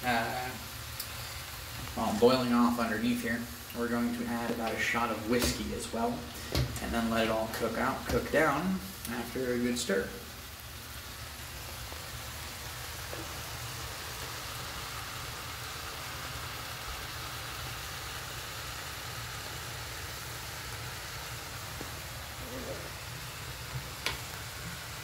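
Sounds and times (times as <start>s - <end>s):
food sizzling in frying pan: 0.0s - 25.0s.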